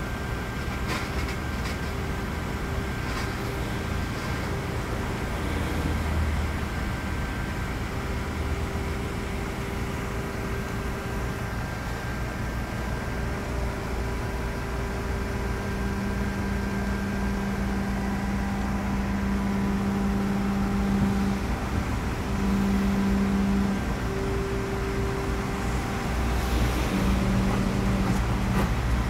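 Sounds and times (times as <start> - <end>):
diesel engine running: 0.0 - 29.0
hydraulic hum: 0.0 - 29.0.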